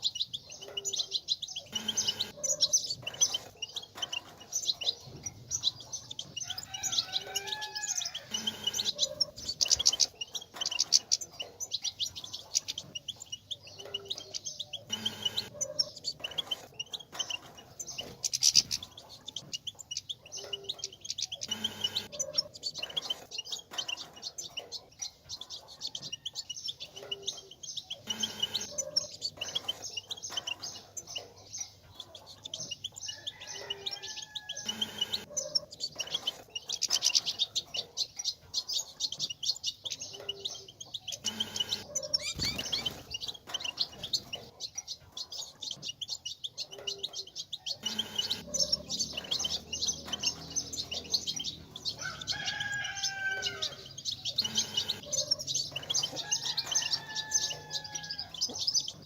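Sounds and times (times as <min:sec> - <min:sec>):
goldfinch twittering: 0:00.0 - 0:59.0.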